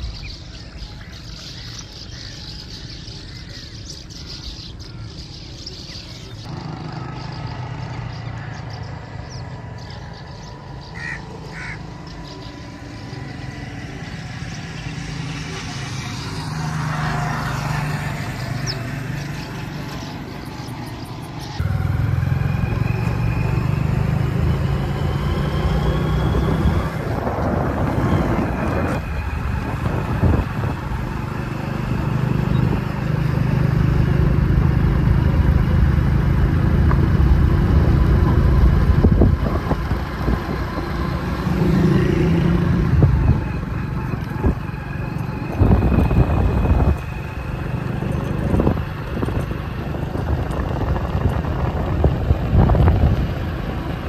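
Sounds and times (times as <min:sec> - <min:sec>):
vehicle engine running: 0:04.2 - 0:54.0.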